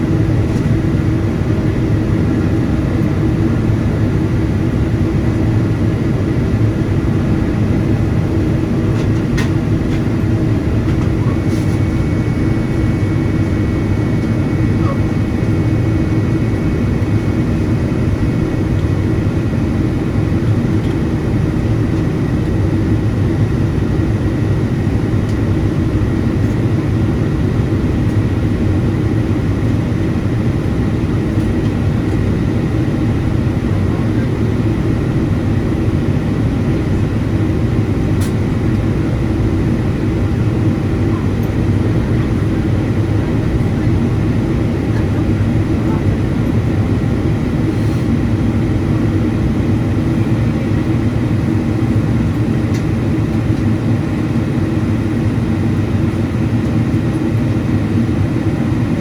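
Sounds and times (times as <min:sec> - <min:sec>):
engine and airflow rumble: 0:00.0 - 0:59.0.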